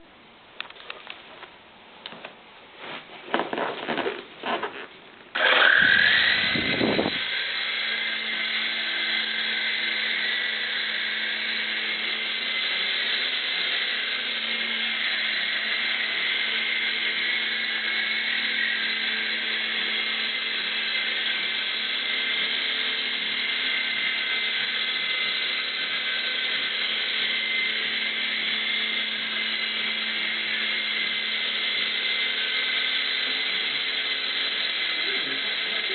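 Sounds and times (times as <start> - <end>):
helicopter electric motors whining: 5.3 - 35.9.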